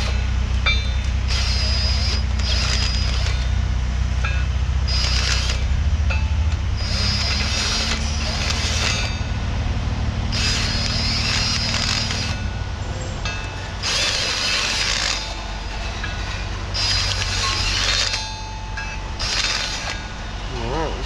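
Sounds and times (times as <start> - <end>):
drill reamer scraping steel: 0.0 - 3.6, 4.2 - 6.2, 6.8 - 9.4, 10.3 - 12.6, 13.2 - 20.5
steady low hum: 0.0 - 21.0.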